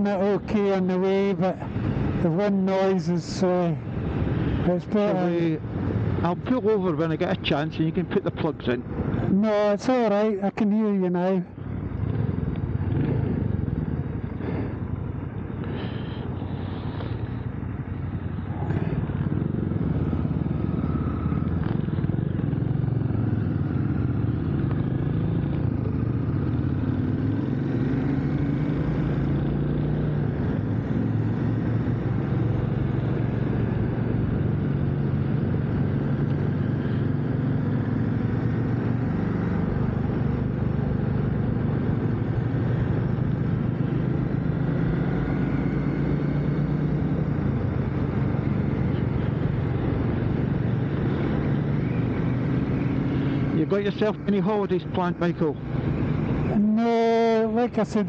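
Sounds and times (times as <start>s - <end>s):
motorcycle engine running: 11.5s - 58.0s.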